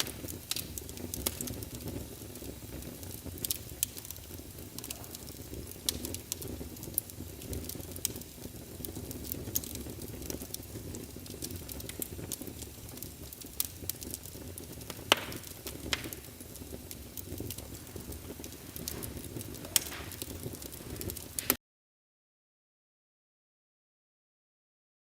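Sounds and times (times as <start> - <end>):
campfire rumble: 0.0 - 21.6
wood crackling and popping: 0.0 - 21.6.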